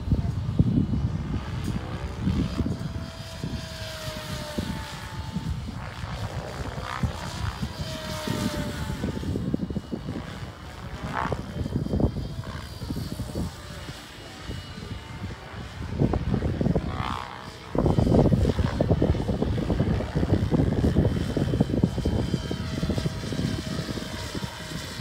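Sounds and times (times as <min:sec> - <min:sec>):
helicopter motor and rotor tones: 0:00.0 - 0:25.0
wind buffeting microphone: 0:00.0 - 0:25.0.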